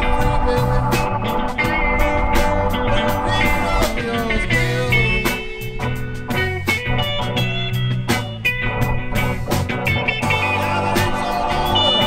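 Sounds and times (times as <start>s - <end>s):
blues band playing: 0.0s - 12.0s
lead guitar bending notes: 0.0s - 12.0s.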